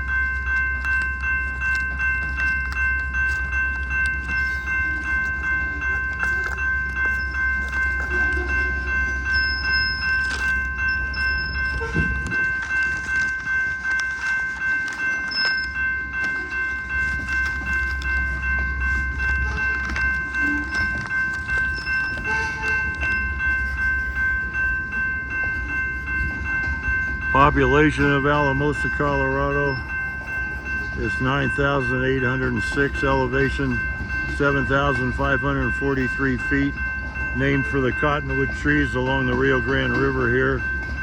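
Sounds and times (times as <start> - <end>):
freight train rumble: 0.0 - 41.0
pulsing high ringing tone: 0.0 - 41.0.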